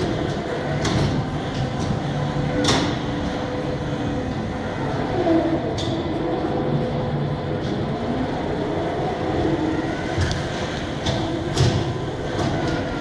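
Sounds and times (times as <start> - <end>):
automated carts running hum: 0.0 - 13.0.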